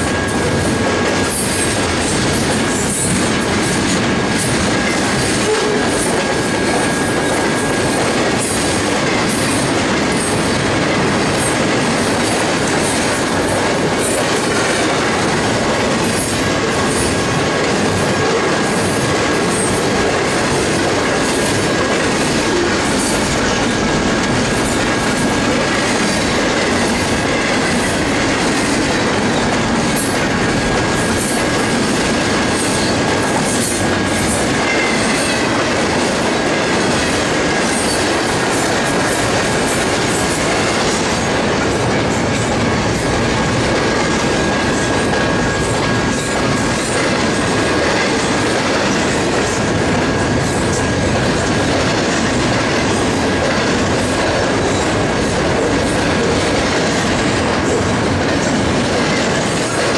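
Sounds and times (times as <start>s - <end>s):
train cars rumbling: 0.0s - 59.9s
train wheels clattering on rail joints: 0.0s - 59.9s.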